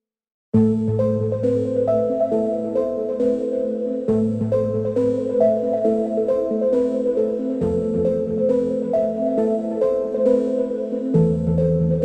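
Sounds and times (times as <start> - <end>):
instrumental melody over chords: 0.6 - 12.0.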